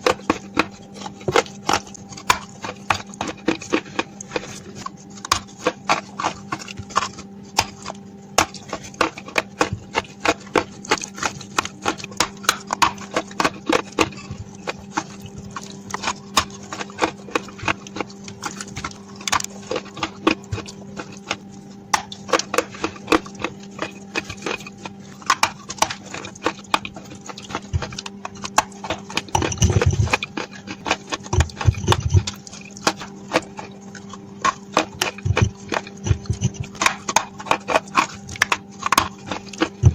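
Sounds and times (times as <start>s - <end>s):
crunching and chewing clay: 0.0s - 39.9s
steady low hum: 0.0s - 39.9s.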